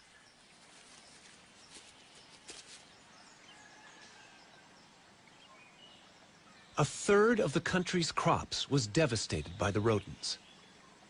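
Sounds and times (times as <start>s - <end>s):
faint outdoor background hiss: 0.0s - 11.0s.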